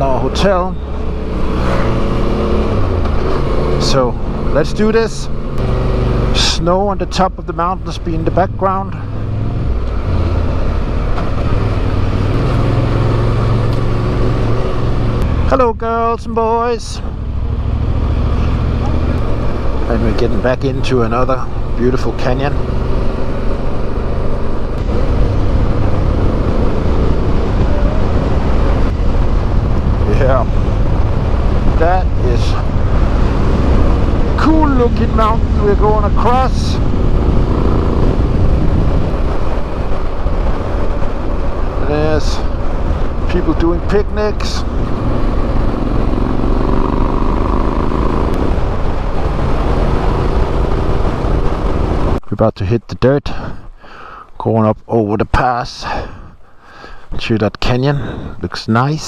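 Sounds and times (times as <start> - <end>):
motorcycle engine cruising: 0.0 - 52.2
wind and road noise: 0.0 - 59.0.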